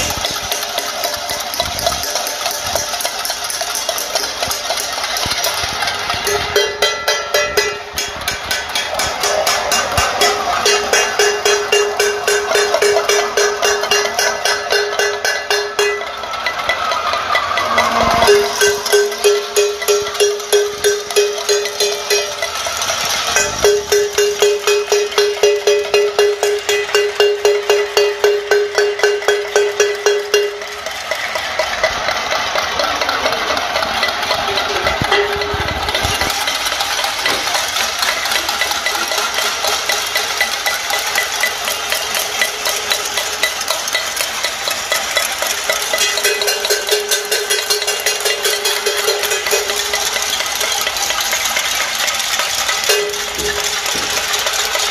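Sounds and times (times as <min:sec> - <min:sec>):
close pot fast beat: 0:00.0 - 0:54.9
pots beaten with spoons: 0:00.0 - 0:54.9.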